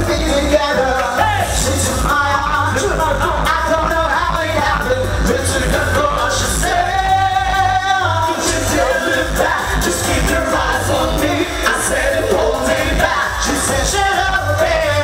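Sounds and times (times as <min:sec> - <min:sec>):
heavy bass beat: 0:00.0 - 0:15.0
men singing pop song: 0:00.0 - 0:15.0.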